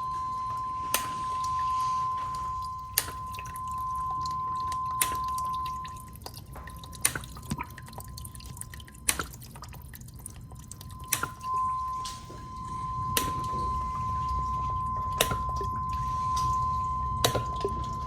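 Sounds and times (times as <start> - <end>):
steady sine tone: 0.0 - 18.0
water dripping into basin: 0.0 - 18.0.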